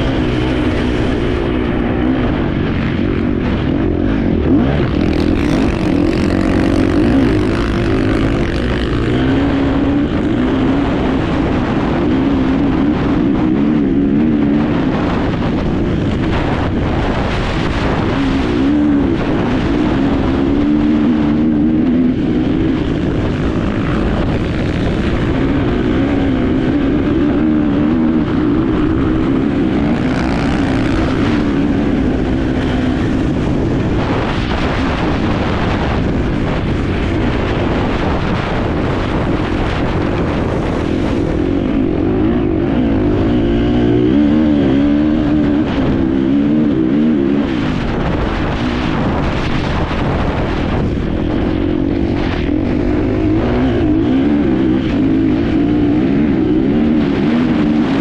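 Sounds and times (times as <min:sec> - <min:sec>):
motorcycle engine running hard: 0:00.0 - 0:58.0.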